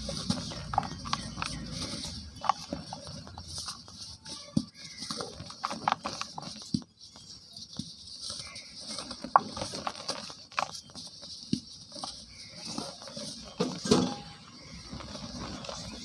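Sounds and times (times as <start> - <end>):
powder sifting hiss: 0.0 - 16.0.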